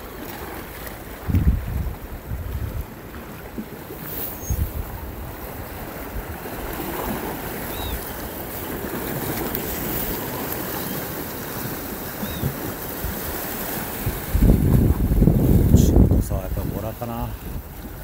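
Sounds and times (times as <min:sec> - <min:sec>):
surf washing on rocky shore: 0:00.0 - 0:18.0
wind buffeting microphone: 0:01.2 - 0:03.5, 0:04.3 - 0:18.0.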